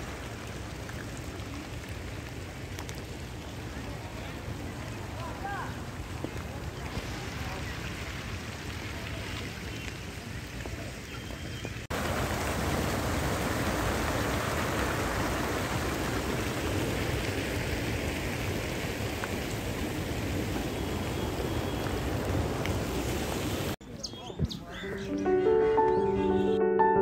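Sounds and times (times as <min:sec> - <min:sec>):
fountain water splashing: 0:00.0 - 0:23.8.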